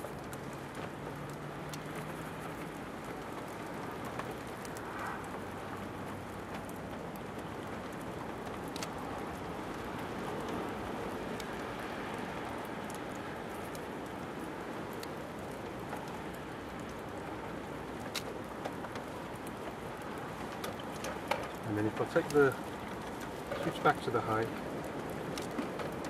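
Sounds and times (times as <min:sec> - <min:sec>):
raindrops ticking: 0:00.0 - 0:26.0
steady rain: 0:00.0 - 0:26.0.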